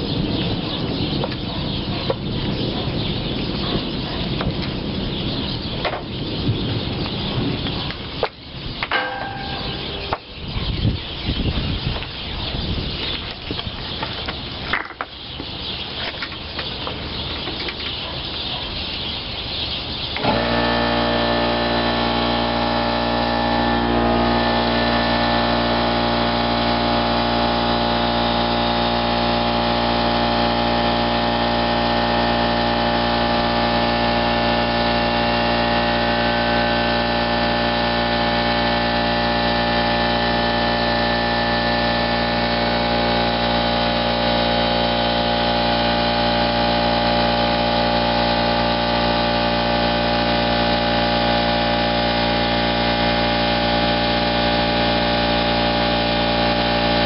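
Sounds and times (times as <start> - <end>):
machine motor drone: 0.0 - 14.3, 16.6 - 57.0.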